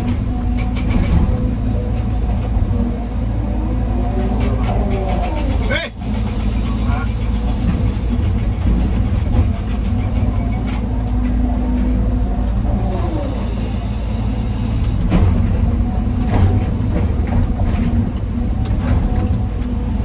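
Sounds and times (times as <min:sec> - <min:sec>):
diesel machinery rumbling: 0:00.0 - 0:20.0.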